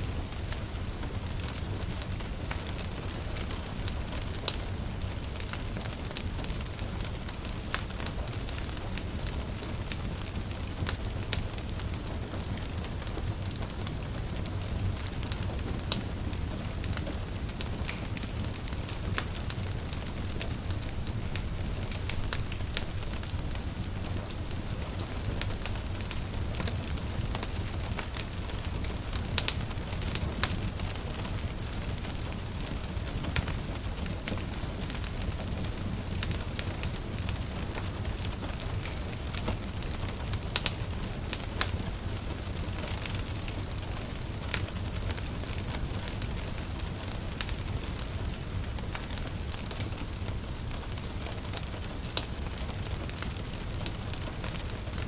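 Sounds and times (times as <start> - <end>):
rain patter: 0.0 - 55.0
wood fire crackling and popping: 0.0 - 55.0.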